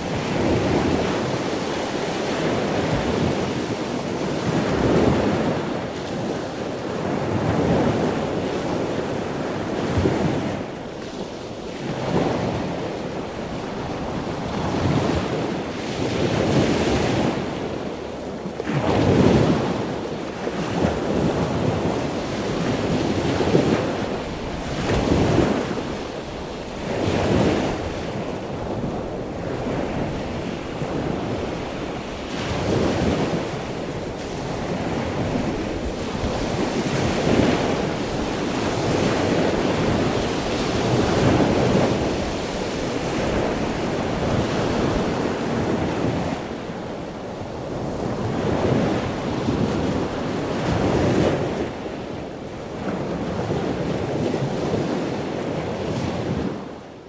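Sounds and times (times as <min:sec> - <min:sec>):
wind buffeting microphone: 0:00.0 - 0:17.8, 0:18.7 - 0:56.8
ocean waves breaking: 0:00.0 - 0:56.9.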